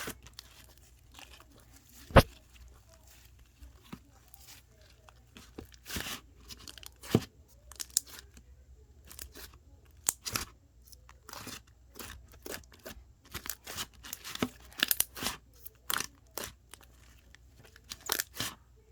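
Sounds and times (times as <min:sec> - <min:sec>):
slime crackling and squishing: 0:00.0 - 0:08.4, 0:11.2 - 0:18.6.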